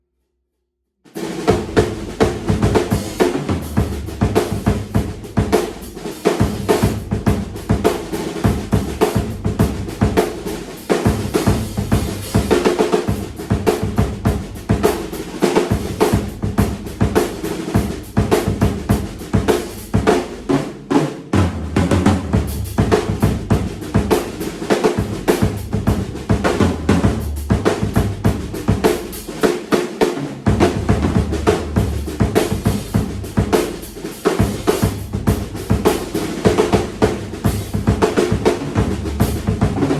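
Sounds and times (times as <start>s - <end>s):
drum kit playing: 1.1s - 39.9s.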